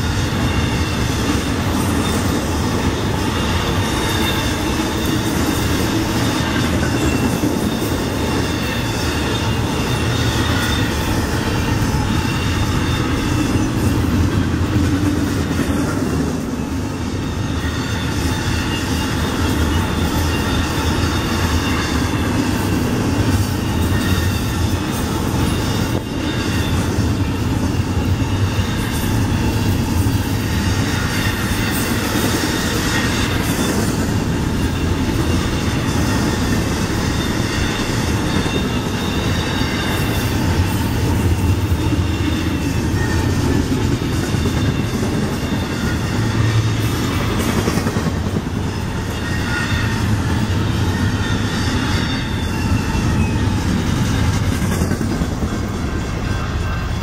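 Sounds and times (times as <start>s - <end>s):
faint wheel squeal: 0.0s - 13.8s, 17.2s - 22.6s, 23.6s - 47.9s, 48.5s - 54.5s
train wheels rumbling on rails: 0.0s - 57.0s.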